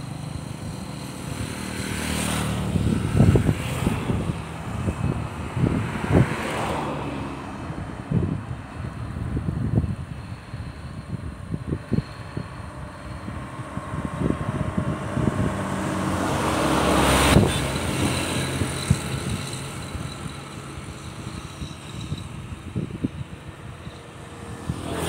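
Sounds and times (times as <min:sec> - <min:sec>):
motor vehicle passing by: 0:00.0 - 0:25.0.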